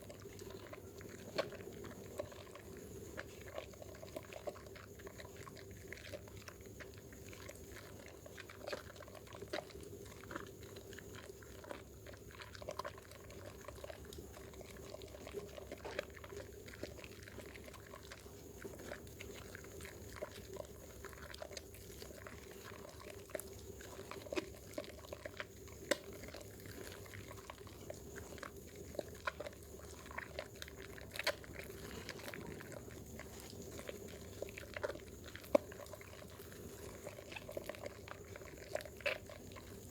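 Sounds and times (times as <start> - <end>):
soap lathering squelch: 0.0 - 39.9.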